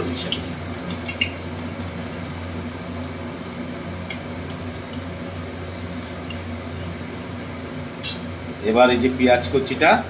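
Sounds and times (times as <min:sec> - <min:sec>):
spices crackling in hot oil: 0:00.0 - 0:08.4
steady low hum: 0:00.0 - 0:10.0.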